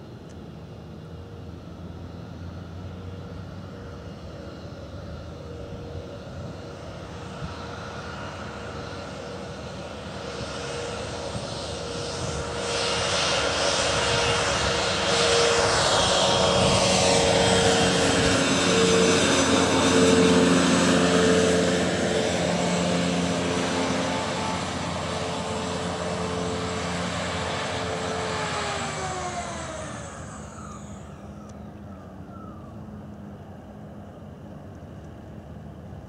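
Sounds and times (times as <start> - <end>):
electric propellers whining: 0.0 - 36.0.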